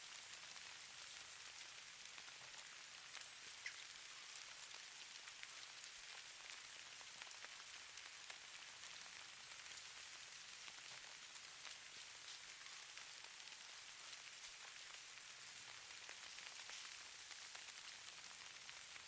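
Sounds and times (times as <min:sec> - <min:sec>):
snow falling hiss: 0:00.0 - 0:19.0
tiny ticks of snowflakes landing: 0:00.4 - 0:19.0.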